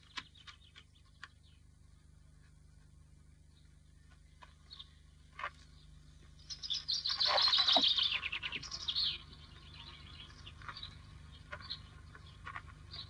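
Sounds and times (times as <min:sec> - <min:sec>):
low film soundtrack hum: 0:00.0 - 0:13.0
songbird chirping: 0:00.0 - 0:13.0.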